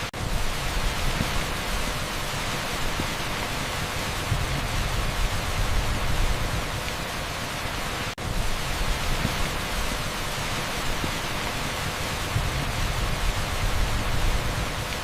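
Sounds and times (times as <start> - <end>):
torrential rain on asphalt: 0.0 - 15.0.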